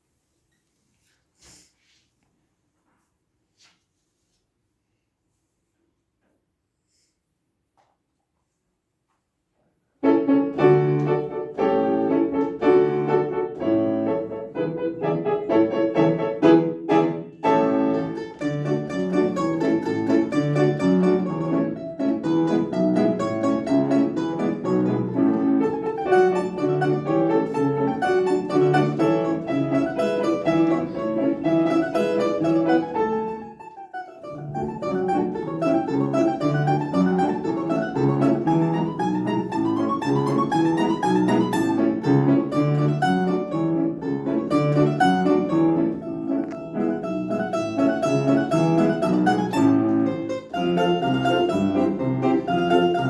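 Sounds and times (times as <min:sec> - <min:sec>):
lively piano piece: 0:10.0 - 0:53.0.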